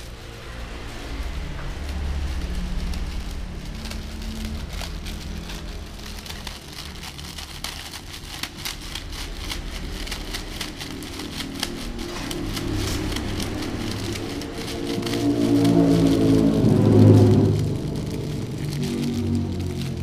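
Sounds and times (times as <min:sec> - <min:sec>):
low rumble: 0:00.0 - 0:20.0
plastic packets crinkling: 0:00.0 - 0:20.0.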